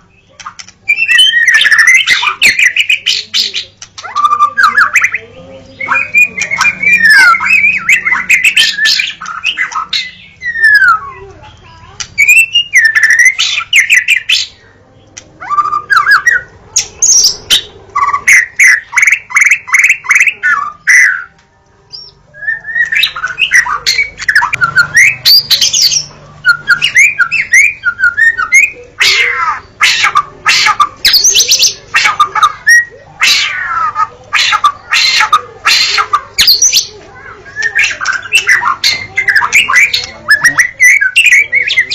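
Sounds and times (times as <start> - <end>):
bird singing varied song: 0.0 - 41.9.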